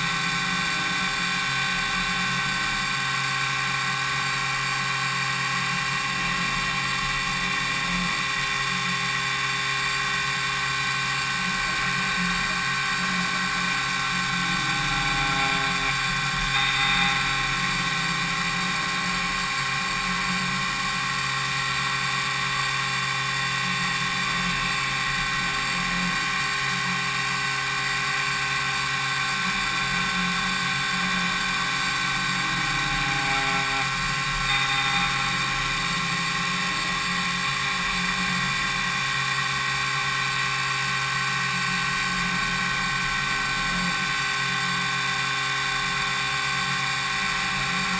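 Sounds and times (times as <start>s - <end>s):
milling machine spindle whine: 0.0s - 47.9s.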